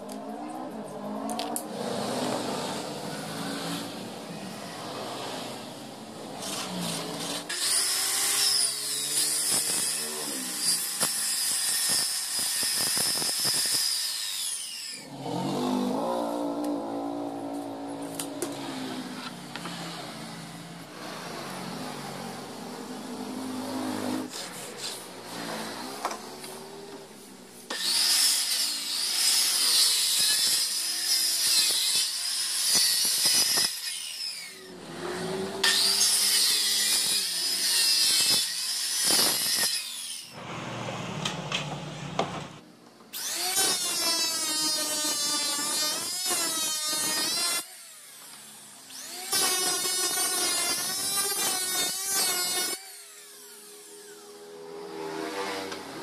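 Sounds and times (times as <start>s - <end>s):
circular saw cutting wood: 1.6s - 42.3s, 43.1s - 56.0s
electric planer shaving wood: 1.8s - 27.0s, 27.6s - 41.4s, 43.2s - 56.0s.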